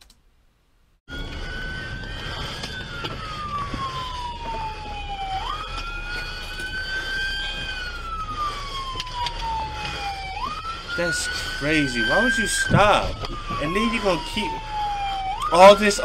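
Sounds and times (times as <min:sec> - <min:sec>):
steady low rumble: 0:01.1 - 0:15.3
police siren wailing: 0:01.1 - 0:16.0.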